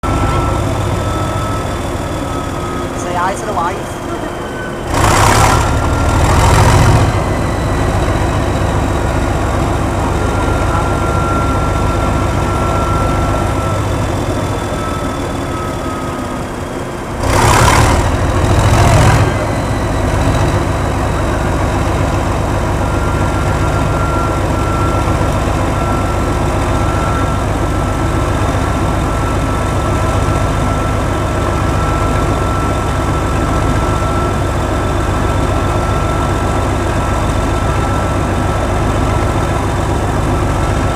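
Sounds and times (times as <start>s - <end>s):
diesel locomotive engine running: 0.0s - 40.9s
engine whistle: 0.0s - 40.9s.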